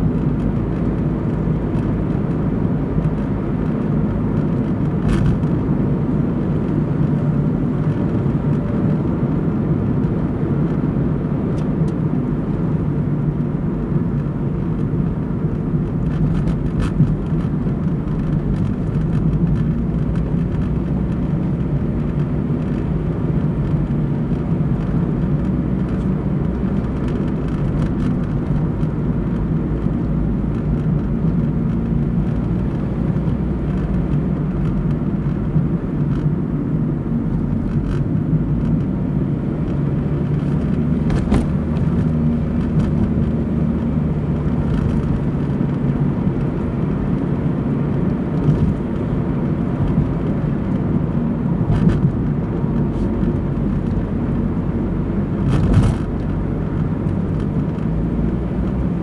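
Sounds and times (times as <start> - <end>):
car engine rumble: 0.0 - 59.0
tyres on road: 0.0 - 59.0.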